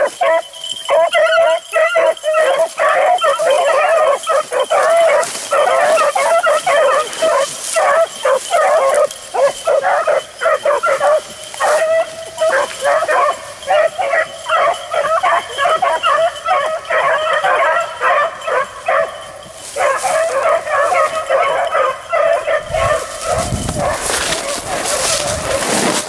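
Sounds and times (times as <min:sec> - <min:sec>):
dogs baying and yelping: 0:00.0 - 0:26.0.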